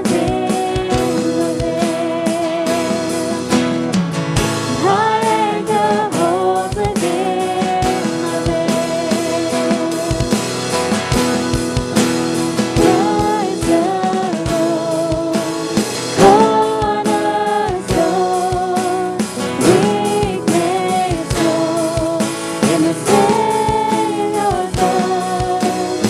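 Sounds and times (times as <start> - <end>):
steady drum beat: 0.0 - 26.0
voices singing worship song: 0.0 - 26.0.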